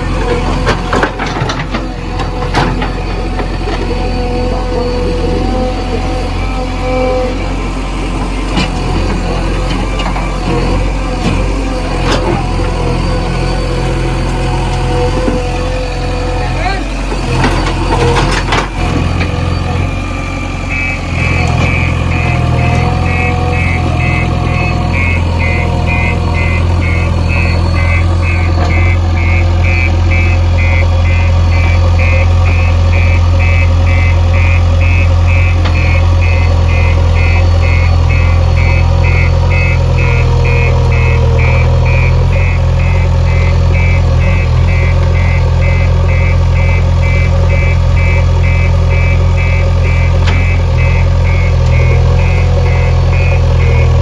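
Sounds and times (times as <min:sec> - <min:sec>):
diesel engine running hard: 0:00.0 - 0:54.0
reversing alarm beeping: 0:00.0 - 0:54.0.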